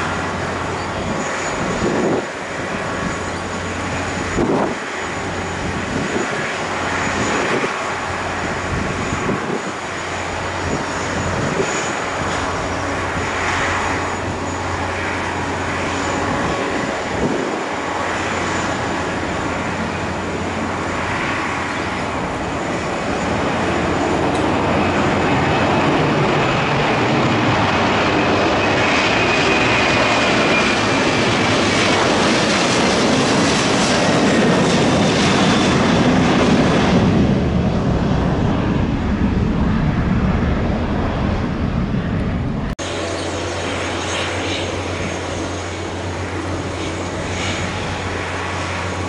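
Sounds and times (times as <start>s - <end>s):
jet engines running: 0.0s - 49.0s.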